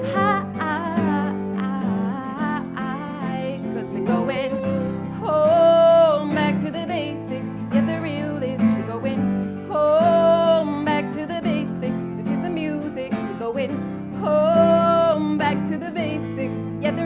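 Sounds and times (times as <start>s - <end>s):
strummed acoustic guitar: 0.0s - 17.0s
woman singing wordless notes: 0.0s - 17.0s.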